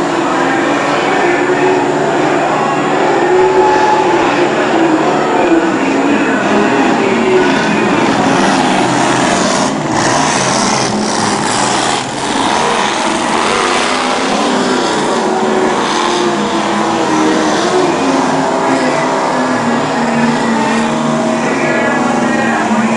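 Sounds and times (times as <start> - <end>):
boat engine running loudly: 0.0 - 22.9.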